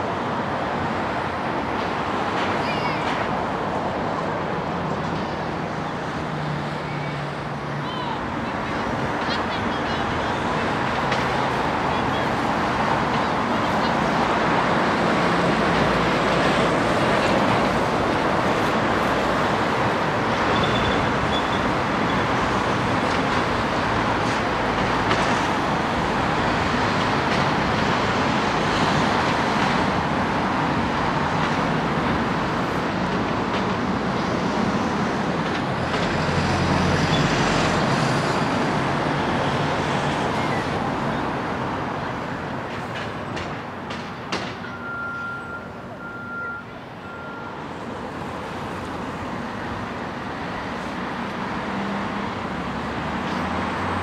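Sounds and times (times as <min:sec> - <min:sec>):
traffic noise: 0:00.0 - 0:54.0.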